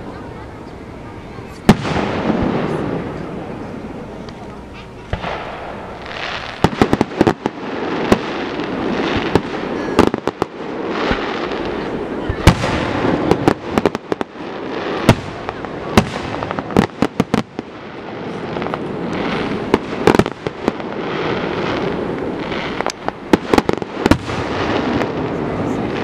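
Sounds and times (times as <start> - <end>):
continuous rumble: 0.0 - 26.0
fireworks bangs and pops: 1.4 - 26.0.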